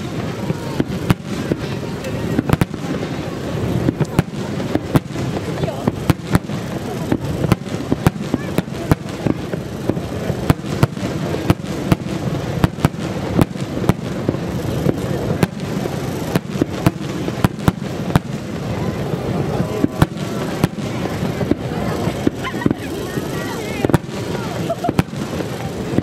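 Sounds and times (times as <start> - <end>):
fireworks bangs: 0.0 - 26.0
murmur of crowd voices: 0.0 - 26.0.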